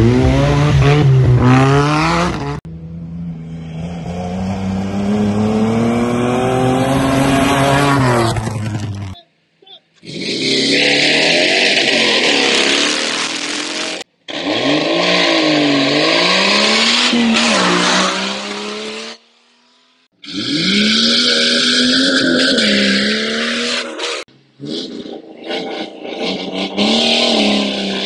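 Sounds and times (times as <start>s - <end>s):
off-road engines revving: 0.0s - 9.2s, 10.0s - 28.0s.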